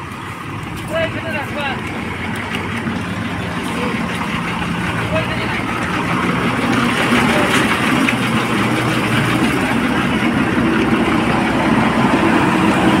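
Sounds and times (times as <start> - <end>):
backhoe loader engine driving: 0.0 - 13.0
dumper truck idling: 0.0 - 13.0.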